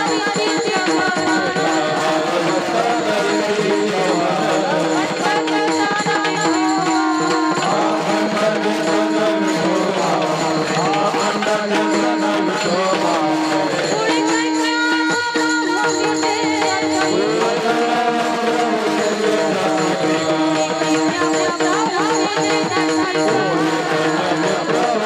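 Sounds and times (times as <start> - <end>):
percussion keeping time: 0.0 - 25.0
woman singing: 0.0 - 25.0.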